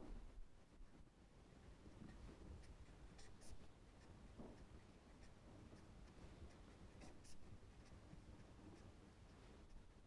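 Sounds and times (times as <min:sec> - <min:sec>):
quiet room hum: 0:00.0 - 0:10.0
pen scratching on paper: 0:01.9 - 0:10.0.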